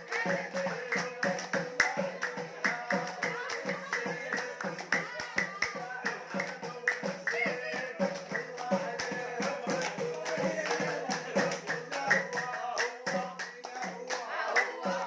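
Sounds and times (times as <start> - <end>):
hand claps and percussion: 0.0 - 15.0.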